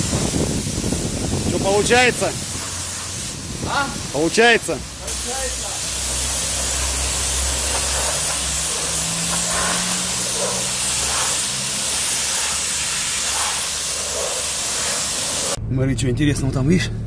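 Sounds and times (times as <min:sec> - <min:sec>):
pressure washer spraying water: 0:00.0 - 0:15.6.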